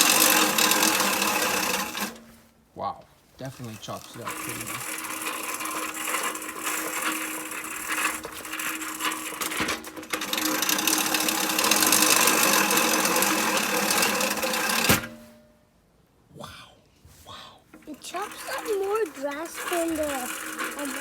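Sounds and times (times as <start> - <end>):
reel mower blades whirring and clattering: 0.0 - 2.5, 3.3 - 15.4, 17.7 - 21.0.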